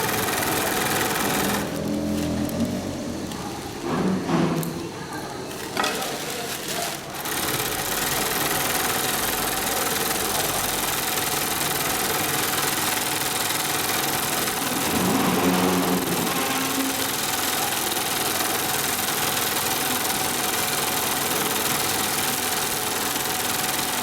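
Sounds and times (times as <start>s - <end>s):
sewing machine running: 0.0s - 4.0s, 5.5s - 24.0s.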